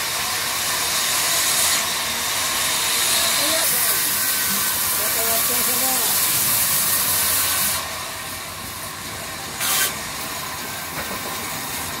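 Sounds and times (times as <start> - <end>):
band saw cutting wood: 0.0 - 10.7.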